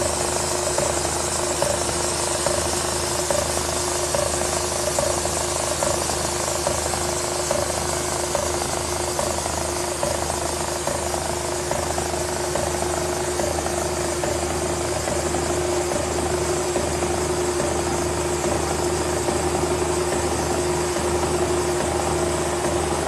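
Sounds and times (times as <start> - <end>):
milling machine whining: 0.0 - 23.0.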